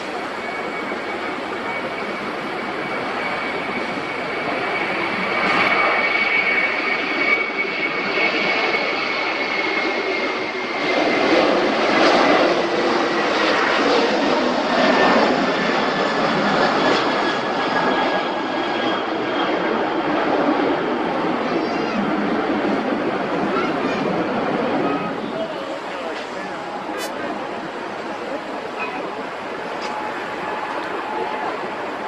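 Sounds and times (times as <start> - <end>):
jet engines roaring with whine: 0.0 - 32.0.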